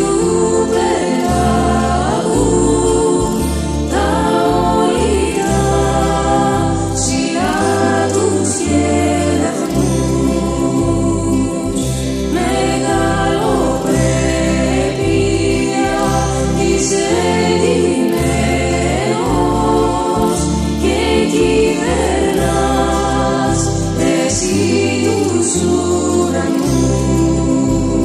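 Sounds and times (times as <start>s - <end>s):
instrumental accompaniment: 0.0s - 28.0s
person singing a hymn: 0.0s - 28.0s
steady bass line: 0.0s - 28.0s.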